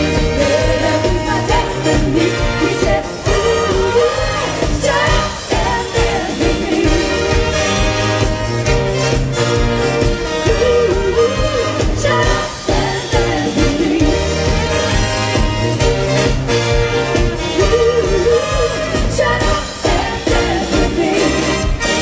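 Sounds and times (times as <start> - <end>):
people singing: 0.0 - 8.2, 10.2 - 15.2, 17.5 - 22.0
brass band playing: 0.0 - 22.0.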